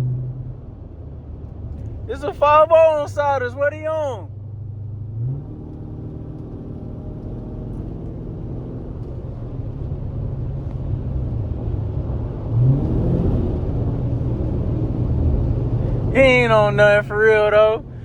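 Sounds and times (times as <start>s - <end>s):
car engine driving: 0.0s - 18.0s.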